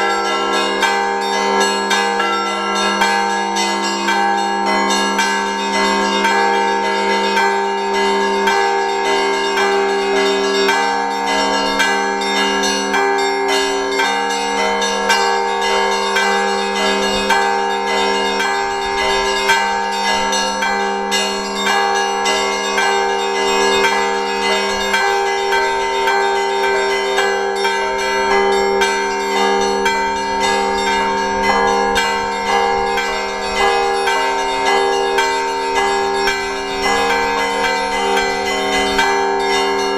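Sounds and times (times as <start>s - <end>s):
large bells ringing long tones: 0.0s - 39.9s
small church bells ringing quickly: 0.0s - 39.9s.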